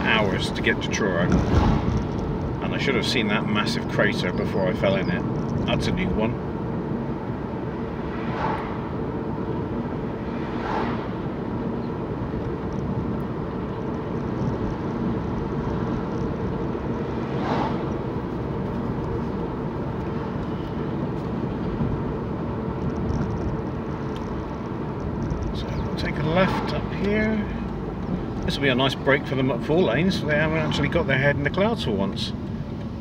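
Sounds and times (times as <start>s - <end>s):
car engine and tyre noise: 0.0s - 33.0s.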